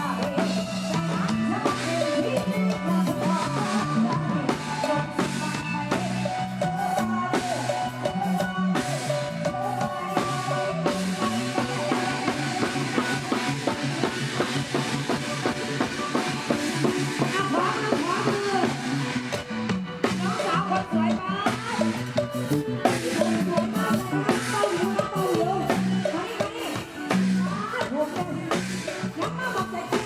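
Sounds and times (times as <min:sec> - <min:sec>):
live pop band playing: 0:00.0 - 0:30.0.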